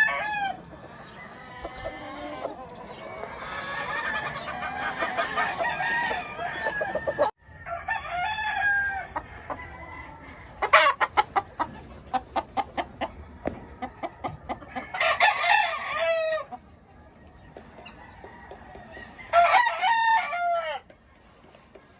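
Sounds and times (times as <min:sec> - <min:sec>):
roosters crowing: 0:00.0 - 0:11.5, 0:12.8 - 0:16.6, 0:17.6 - 0:21.0.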